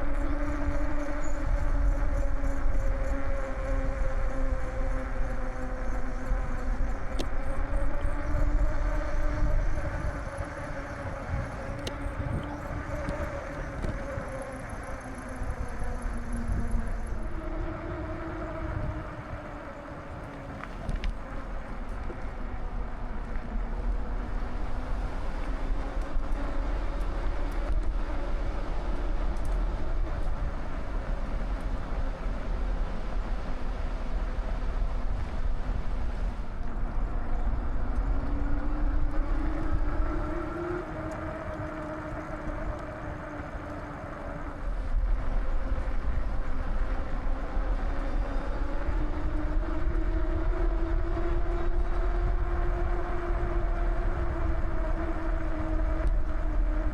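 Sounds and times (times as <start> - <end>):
faint whine: 0.0 - 56.9
wind rumbling on microphone: 0.0 - 56.9.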